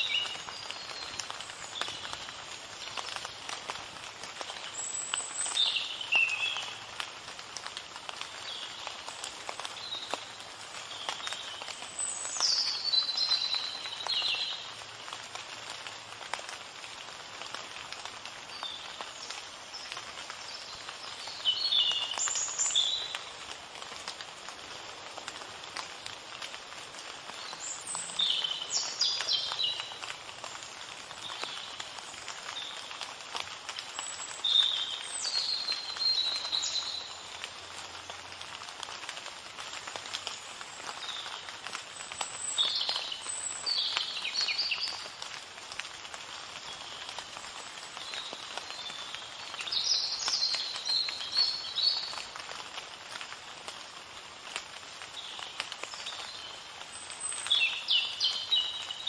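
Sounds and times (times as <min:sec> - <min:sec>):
songbirds chirping: 0:00.0 - 0:59.0
steady background hiss: 0:00.0 - 0:59.0.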